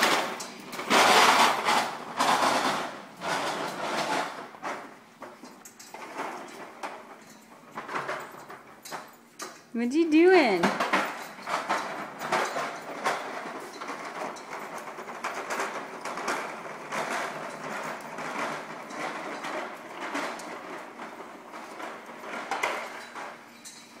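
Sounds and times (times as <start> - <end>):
plastic wheels rattling on tile: 0.0 - 9.7, 10.6 - 24.0.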